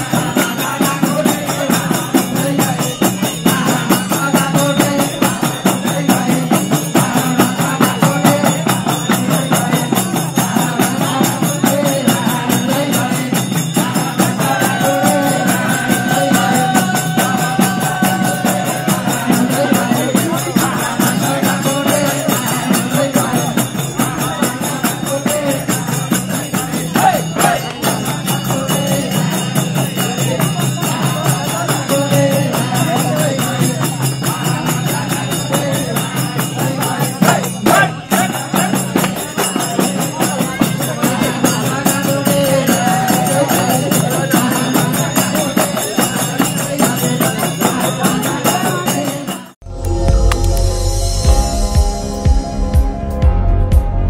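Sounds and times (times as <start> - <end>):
jingling percussion: 0.0 - 53.4
group singing devotional music: 0.0 - 54.0.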